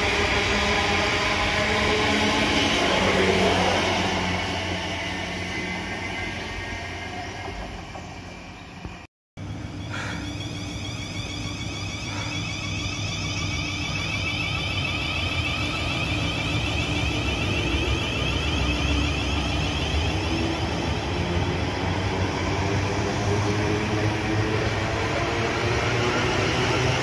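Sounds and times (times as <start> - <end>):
train running noise: 0.0 - 27.0.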